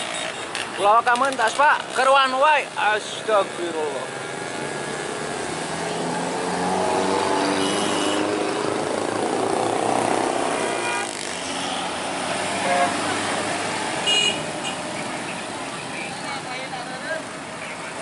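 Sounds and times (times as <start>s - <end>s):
motorcycle engines passing: 0.0s - 18.0s
tyres on asphalt: 0.0s - 18.0s.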